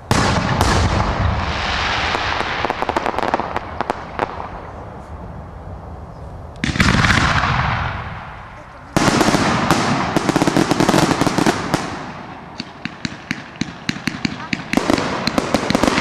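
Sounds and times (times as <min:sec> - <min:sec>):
firework crackling pops: 0:00.0 - 0:04.8, 0:06.6 - 0:16.0
firework bangs: 0:00.0 - 0:05.0, 0:06.6 - 0:16.0.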